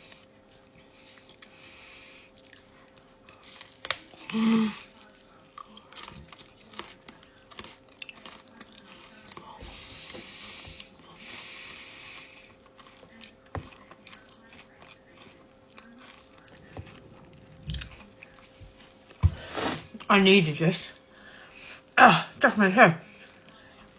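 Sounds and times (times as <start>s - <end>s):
person chewing and crunching food: 0.0s - 20.1s, 23.0s - 23.9s.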